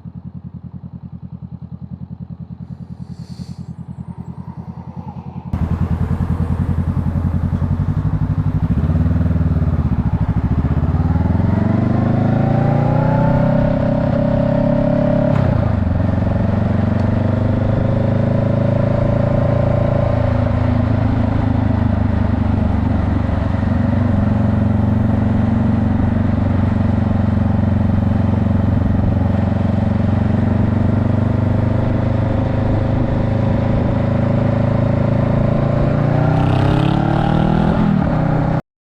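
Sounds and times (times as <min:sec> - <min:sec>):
vehicle engine running hard: 0:00.0 - 0:38.6.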